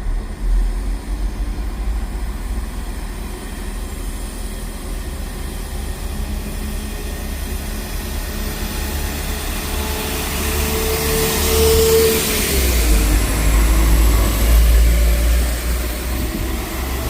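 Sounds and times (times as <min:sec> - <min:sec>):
train rumbling: 0:00.0 - 0:17.0
train whine: 0:00.0 - 0:17.0.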